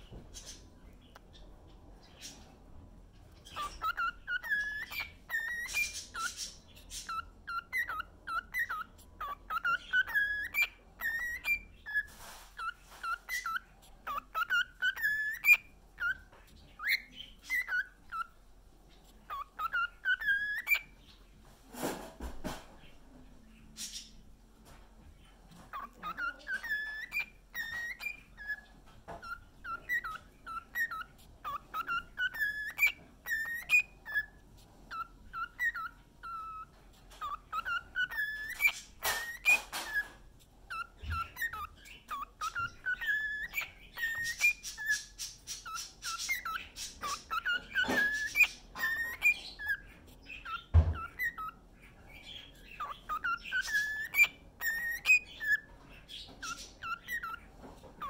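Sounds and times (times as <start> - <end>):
cockatiel whistling: 3.4 - 18.4, 19.2 - 21.2, 25.5 - 57.5.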